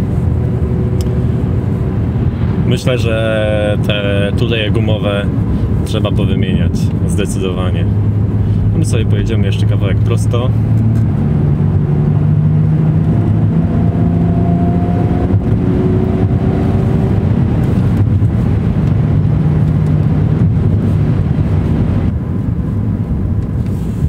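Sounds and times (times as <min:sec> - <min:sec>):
car engine cruising: 0:00.0 - 0:24.0
road and tyre noise: 0:00.0 - 0:24.0.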